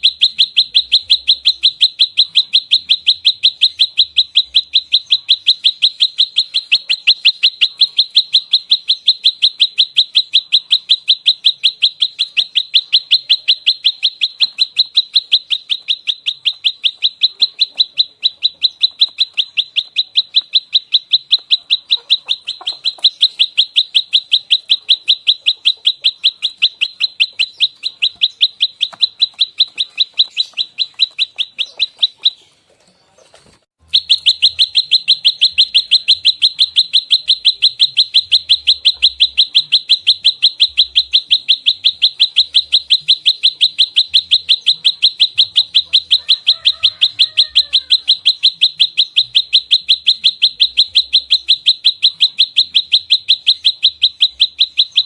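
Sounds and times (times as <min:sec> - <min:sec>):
bird singing sharp high chirps: 0:00.0 - 0:33.2, 0:33.8 - 0:55.0.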